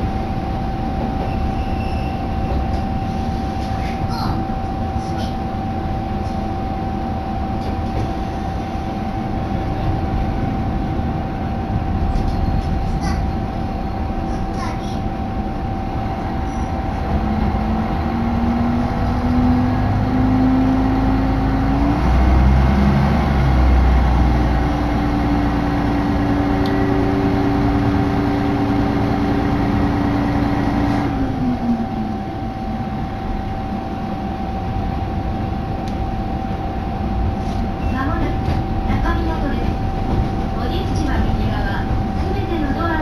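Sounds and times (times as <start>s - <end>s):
deep rumble: 0.0s - 43.0s
diesel railcar engine: 0.0s - 43.0s
train running on track: 0.0s - 43.0s.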